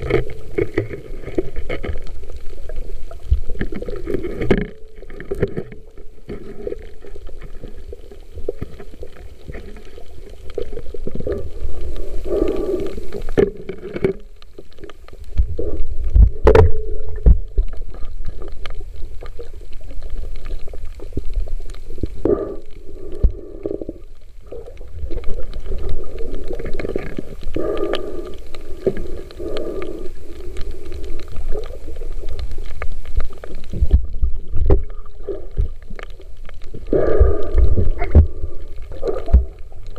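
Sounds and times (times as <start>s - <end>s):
underwater rumbling and gurgling: 0.0s - 39.9s.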